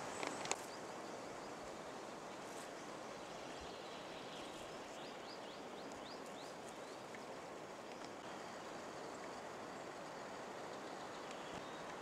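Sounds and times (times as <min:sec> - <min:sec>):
forest ambience hiss: 0:00.0 - 0:12.0.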